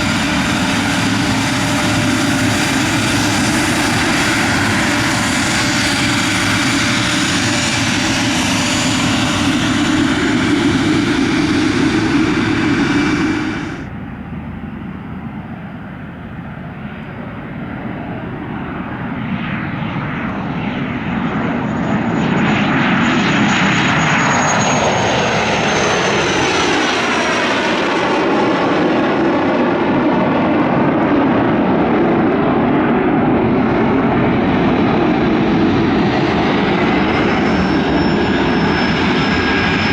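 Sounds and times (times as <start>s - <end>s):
aircraft engine noise: 0.0s - 39.9s
aircraft engines with high whine: 0.0s - 39.9s.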